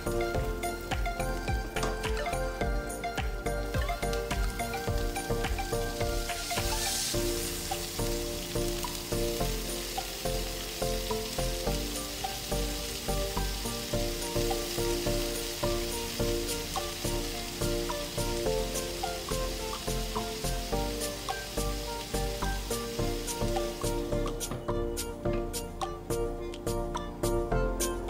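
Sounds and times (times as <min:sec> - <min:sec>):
soft background music: 0:00.0 - 0:28.0
spinach sizzling in hot oil: 0:00.0 - 0:28.0.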